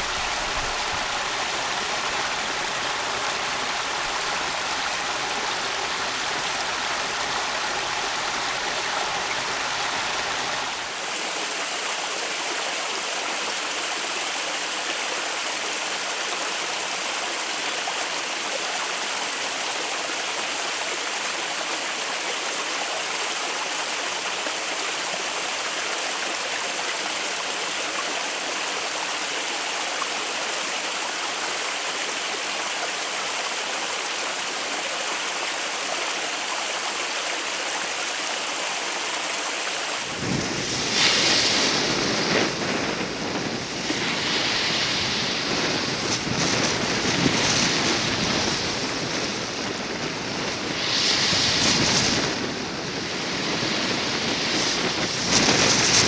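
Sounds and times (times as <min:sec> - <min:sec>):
stream water flowing: 0:00.0 - 0:56.0
water surging: 0:00.0 - 0:56.0.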